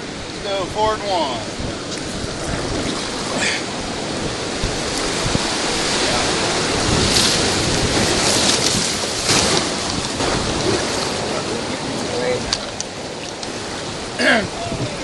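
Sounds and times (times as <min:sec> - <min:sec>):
water splashing over raft: 0:00.0 - 0:15.0
whitewater rapids rushing: 0:00.0 - 0:15.0.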